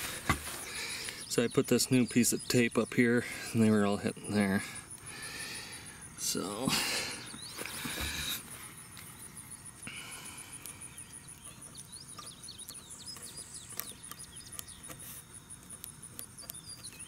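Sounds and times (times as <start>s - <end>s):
birds chirping: 0.0s - 15.0s, 15.6s - 17.0s
high-pitched insect trill: 0.6s - 17.0s.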